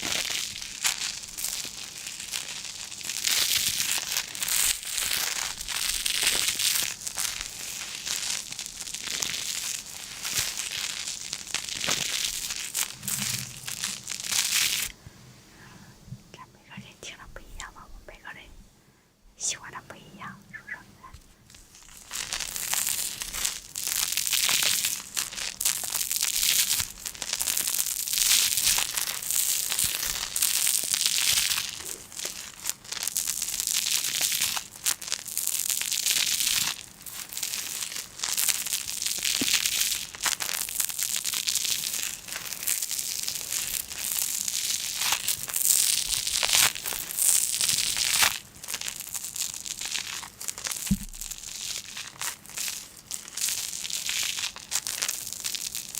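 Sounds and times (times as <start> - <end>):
crinkly sheet being crumpled: 0.0 - 14.9, 20.7 - 55.9.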